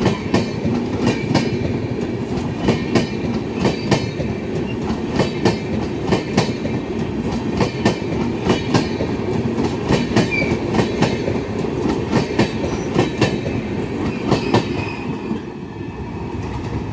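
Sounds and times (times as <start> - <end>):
train wheels clacking on rail joints: 0.0 - 15.5
train rumble: 0.0 - 16.9.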